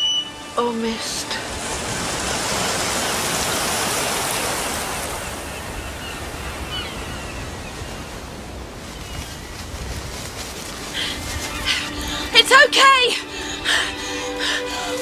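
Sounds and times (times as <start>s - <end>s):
sea surf rushing: 0.0s - 15.0s.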